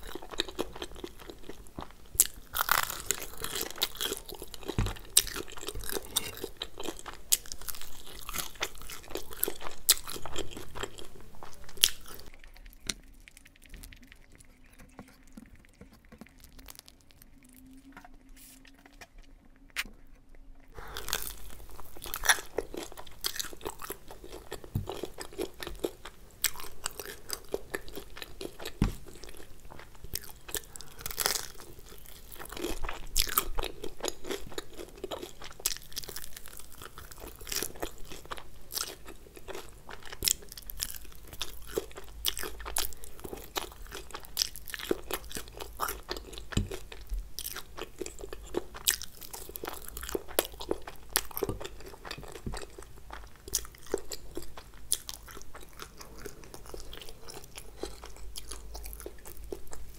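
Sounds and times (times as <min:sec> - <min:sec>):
chewing crispy fried food: 0:00.0 - 0:59.9.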